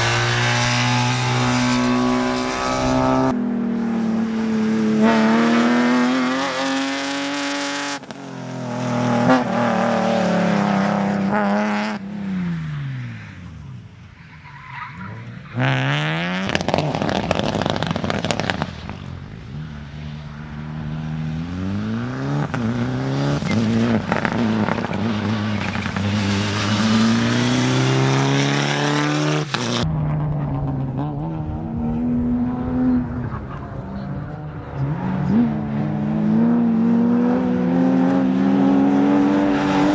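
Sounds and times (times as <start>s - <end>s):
rally car engines revving hard: 0.0s - 12.8s, 15.5s - 19.0s, 20.2s - 39.9s.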